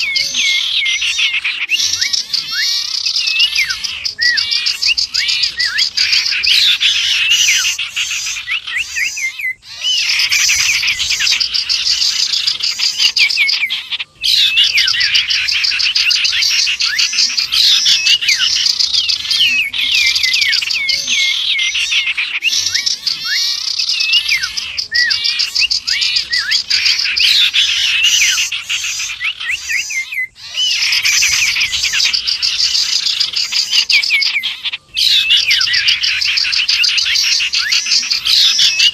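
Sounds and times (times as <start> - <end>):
songbirds chirping chorus: 0.0 - 38.9.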